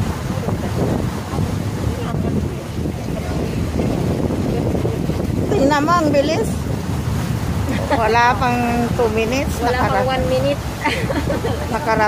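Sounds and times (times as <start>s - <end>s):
boat engine and water rumble: 0.0s - 12.0s
wind buffeting microphone: 0.0s - 12.0s.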